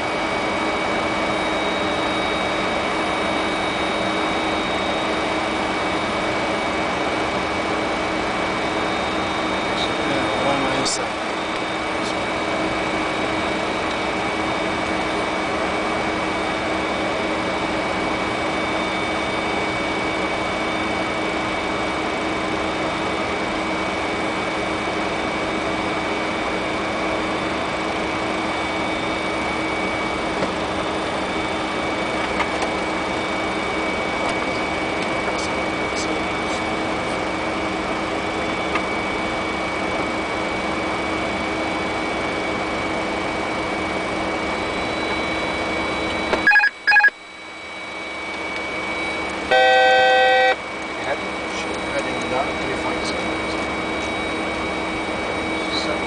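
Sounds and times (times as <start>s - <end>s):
cockpit air rush and hum: 0.0s - 18.6s, 27.3s - 56.0s.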